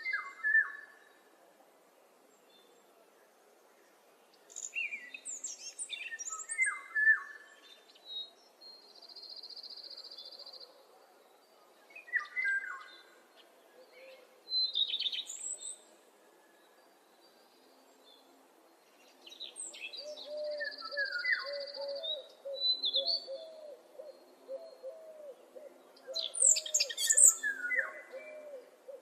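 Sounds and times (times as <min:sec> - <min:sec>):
faint outdoor background noise: 0:00.0 - 0:29.0
songbirds singing: 0:02.3 - 0:29.0.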